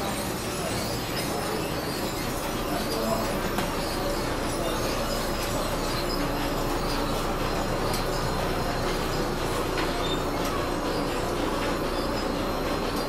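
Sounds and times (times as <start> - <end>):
machinery rumbling clatter: 0.1 - 13.0.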